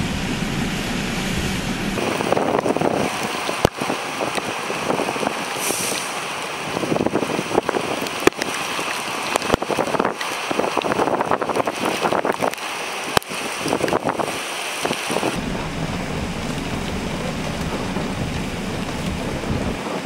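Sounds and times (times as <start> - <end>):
strong wind buffeting microphone: 0.0 - 6.0, 6.6 - 20.0
driving rain: 0.0 - 20.0.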